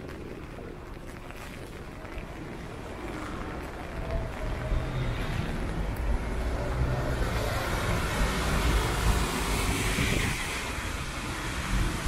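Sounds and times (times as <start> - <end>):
tyres hissing on wet asphalt: 0.1 - 12.0.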